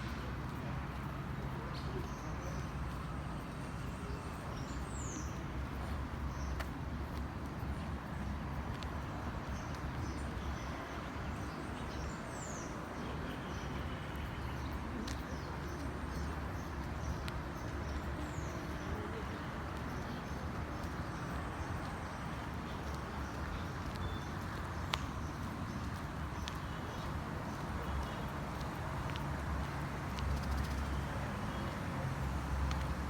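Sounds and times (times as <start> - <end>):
faint clicks: 0.0 - 31.8.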